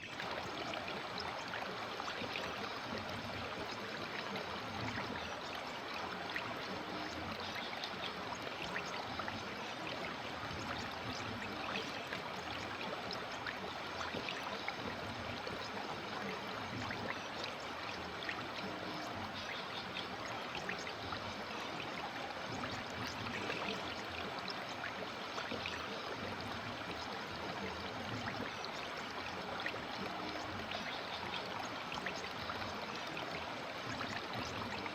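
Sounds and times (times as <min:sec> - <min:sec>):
river water running over stones: 0:00.0 - 0:34.9.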